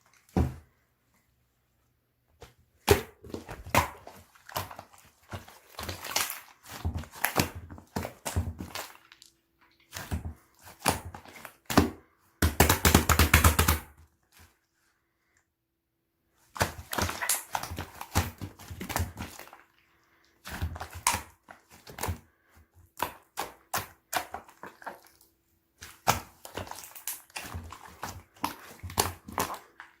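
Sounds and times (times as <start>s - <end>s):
slime squishing by hand: 2.3s - 15.4s, 16.4s - 30.0s.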